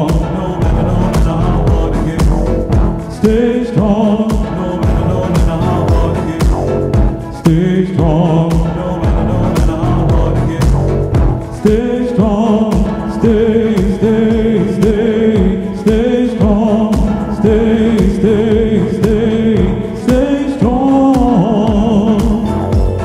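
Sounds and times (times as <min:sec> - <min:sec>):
song with steady beat: 0:00.0 - 0:23.0
wordless singing: 0:00.0 - 0:23.0.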